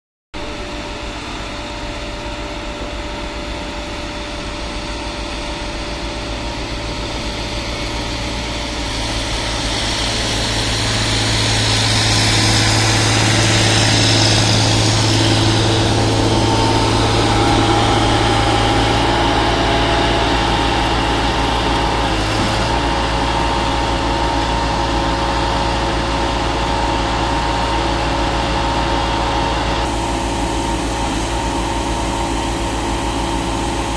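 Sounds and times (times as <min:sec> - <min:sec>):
machine engine droning: 0:00.4 - 0:33.9.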